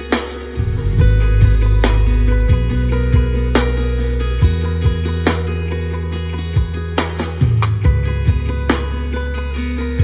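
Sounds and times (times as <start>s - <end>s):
bass line: 0.0s - 10.0s
strummed guitar tune: 0.0s - 10.0s.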